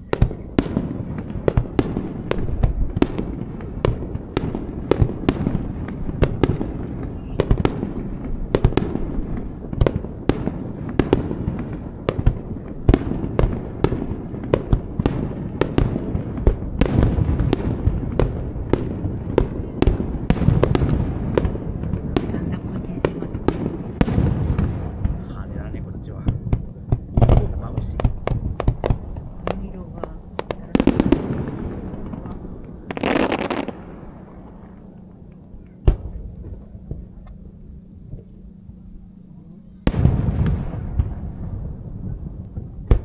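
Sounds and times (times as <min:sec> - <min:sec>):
fireworks bangs and cracks: 0:00.0 - 0:37.3, 0:39.8 - 0:43.0
low rumble of bursting shells: 0:00.0 - 0:43.0.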